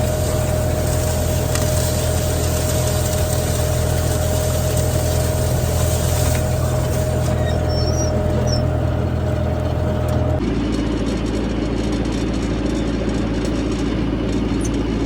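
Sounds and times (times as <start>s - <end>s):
vehicle engine droning under load: 0.0s - 15.0s.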